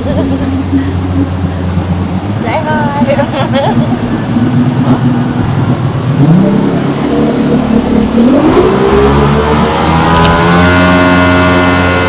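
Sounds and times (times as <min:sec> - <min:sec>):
boat engine revving: 0:00.0 - 0:12.0.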